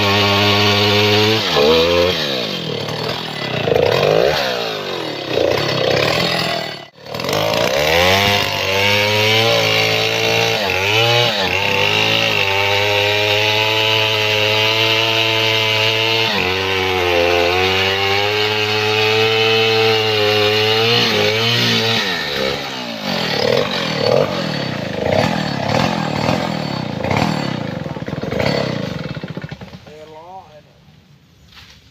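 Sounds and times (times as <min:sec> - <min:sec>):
chainsaw cutting wood: 0:00.0 - 0:30.5.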